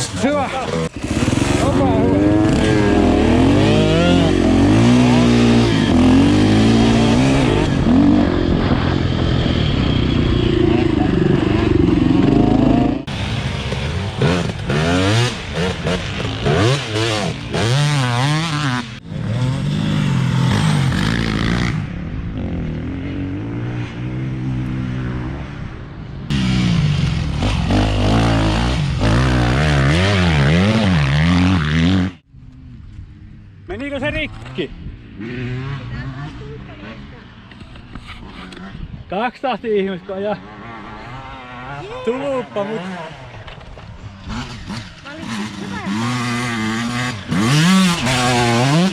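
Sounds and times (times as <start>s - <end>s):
dirt bike engine revving: 0.0s - 25.6s, 26.3s - 32.2s, 34.3s - 39.0s, 40.3s - 48.9s.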